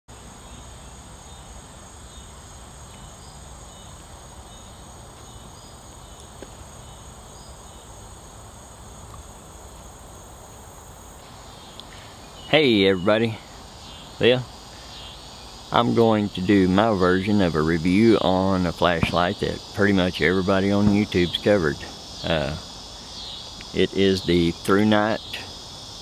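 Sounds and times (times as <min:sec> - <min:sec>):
insects trilling: 0:00.1 - 0:26.0.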